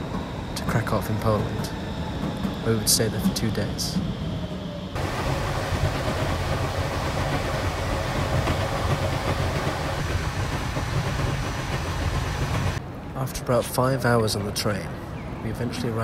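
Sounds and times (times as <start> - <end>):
wheel and air noise: 0.0 - 13.0
train carriage rumble: 0.0 - 16.0.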